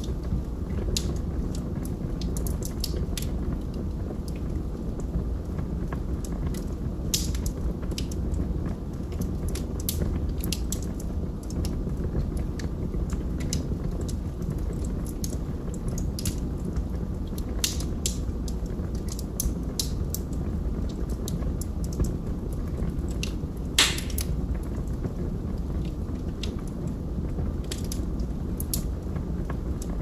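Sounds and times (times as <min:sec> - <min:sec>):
burning logs crackling and popping: 0:00.0 - 0:30.0
low rumble of flames: 0:00.0 - 0:30.0.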